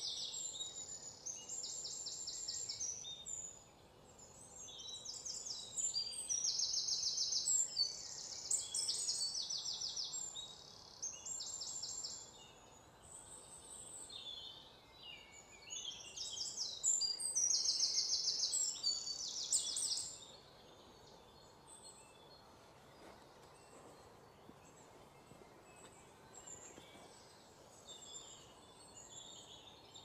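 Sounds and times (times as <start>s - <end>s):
small birds chirping and trilling: 0.0s - 30.0s.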